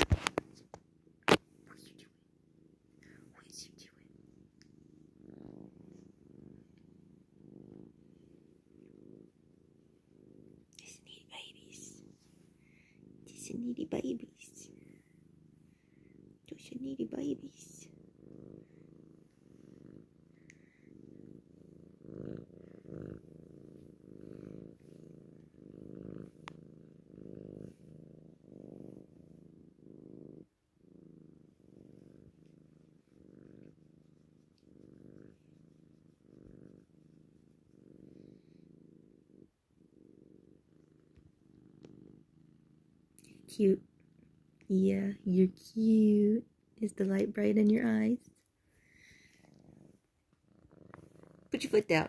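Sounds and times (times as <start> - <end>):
kitten purring: 0.0 - 52.0.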